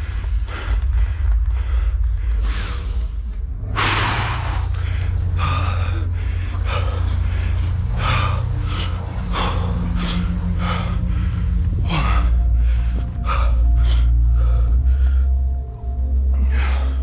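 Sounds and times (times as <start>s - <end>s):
heavy rapid breathing: 0.0s - 17.0s
steady low rumble: 0.0s - 17.0s.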